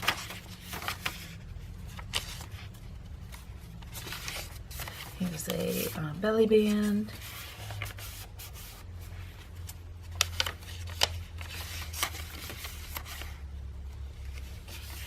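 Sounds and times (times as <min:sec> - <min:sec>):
paper rustling and rubbing: 0:00.0 - 0:15.0.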